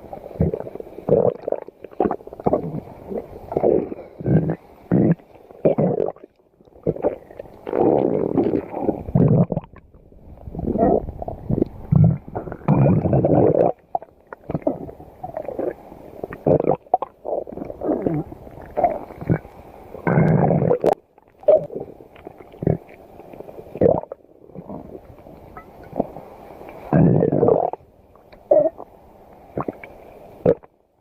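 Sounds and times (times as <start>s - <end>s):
stomach growling: 0.0s - 26.2s, 26.8s - 28.9s, 29.5s - 30.7s.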